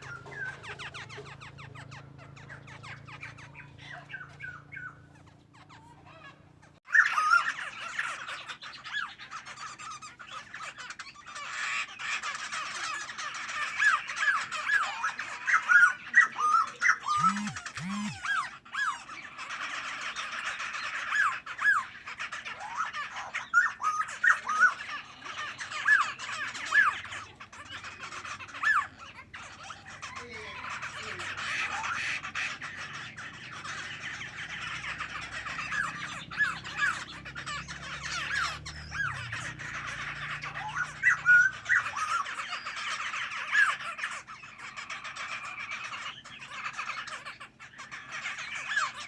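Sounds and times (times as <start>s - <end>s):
low bird calls: 0.0s - 49.0s
songbird singing: 0.0s - 49.0s.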